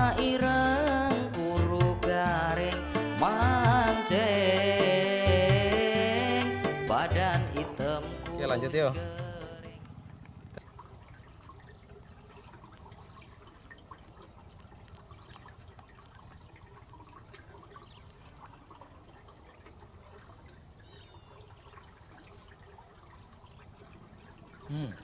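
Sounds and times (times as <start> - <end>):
river water trickling: 0.0 - 25.0.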